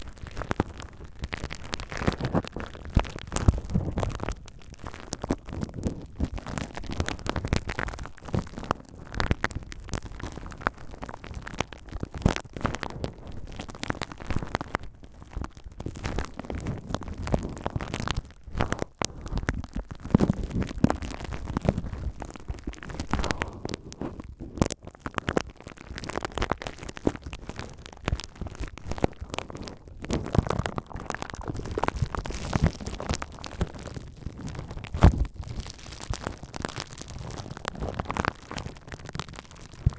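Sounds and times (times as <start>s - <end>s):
bubble wrap crackling: 0.0s - 39.9s.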